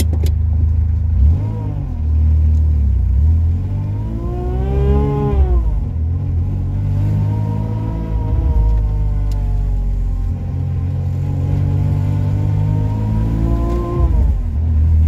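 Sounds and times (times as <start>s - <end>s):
supercharger whine: 0.0s - 15.0s
car engine revving: 1.0s - 15.0s.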